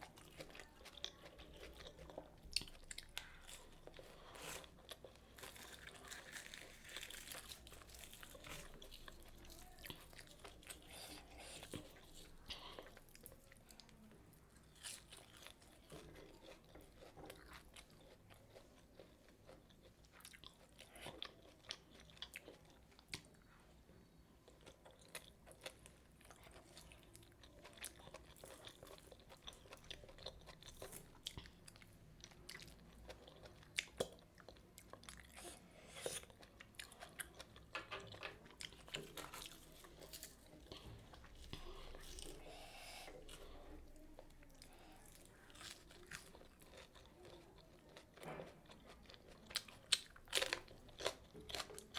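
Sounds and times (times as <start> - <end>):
chewing crunches: 0.0 - 14.0, 14.6 - 23.4, 24.5 - 51.9.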